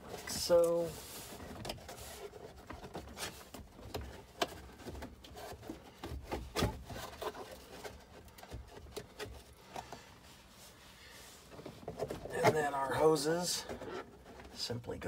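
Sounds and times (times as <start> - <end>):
rubbing and rustling: 0.0 - 14.8.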